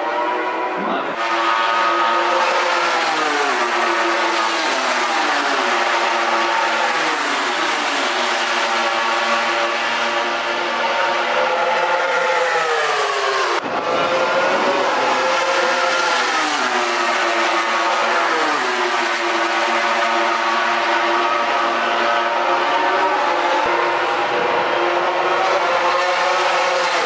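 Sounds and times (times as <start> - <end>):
racing motorcycle engine revving: 0.1 - 27.0.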